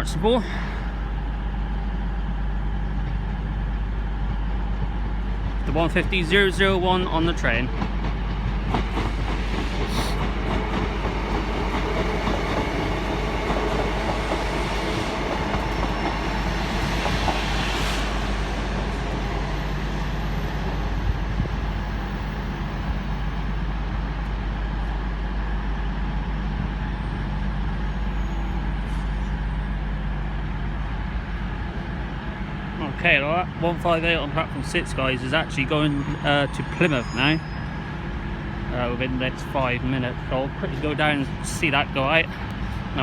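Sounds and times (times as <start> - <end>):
diesel train engine droning: 0.0 - 43.0
rail noise from wheels: 0.0 - 43.0.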